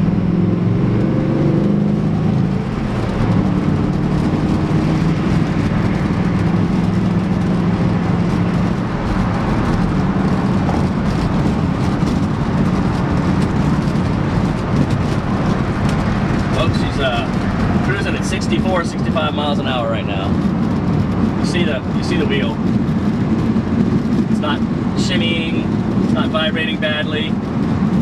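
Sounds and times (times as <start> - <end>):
engine drone: 0.0 - 28.0
road and wind noise: 0.0 - 28.0.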